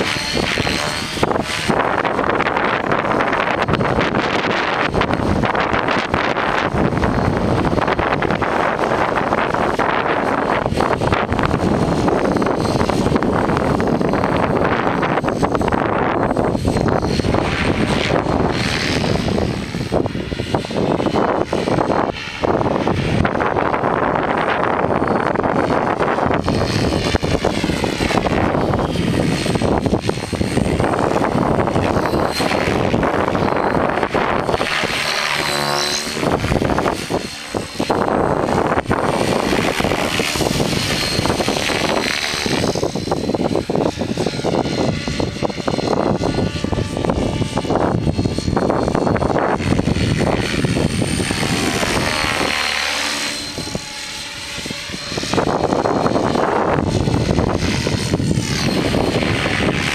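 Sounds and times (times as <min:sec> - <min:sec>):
rc helicopter rotor whine: 0:00.0 - 0:59.9
wind buffeting microphone: 0:00.0 - 0:59.9.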